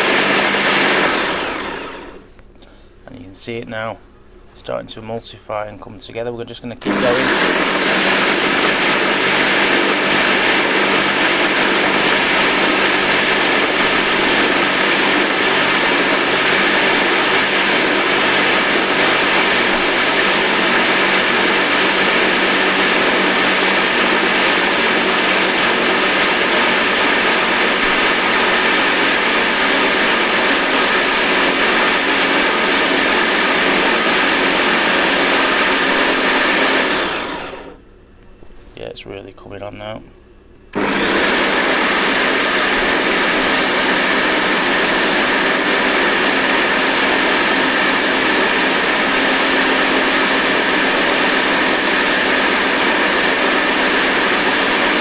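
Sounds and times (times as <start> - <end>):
blender motor running: 0.0 - 2.3, 6.8 - 37.8, 40.7 - 55.0.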